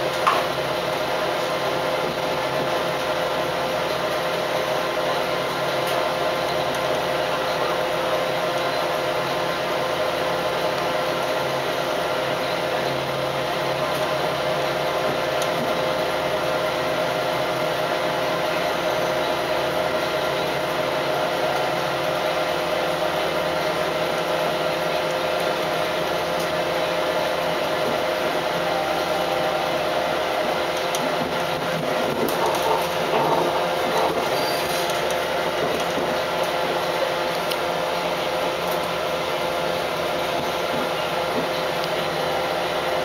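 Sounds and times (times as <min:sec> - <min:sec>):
constant hum: 0:00.0 - 0:43.0
railcar running noise: 0:00.0 - 0:43.0.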